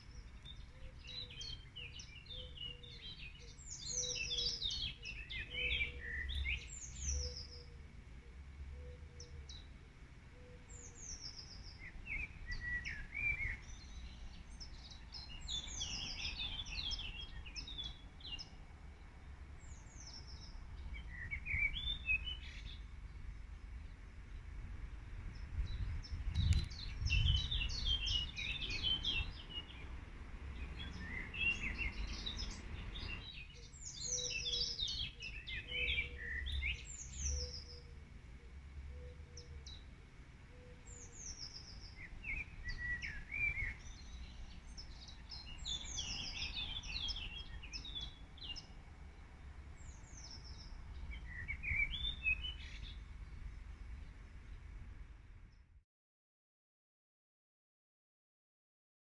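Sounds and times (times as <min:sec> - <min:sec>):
songbirds singing: 0:00.0 - 0:55.8.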